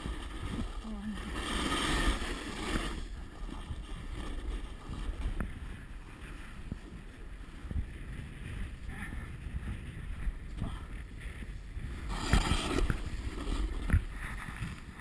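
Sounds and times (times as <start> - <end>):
snowboard scraping over snow: 0.0 - 15.0
wind buffeting microphone: 0.0 - 15.0.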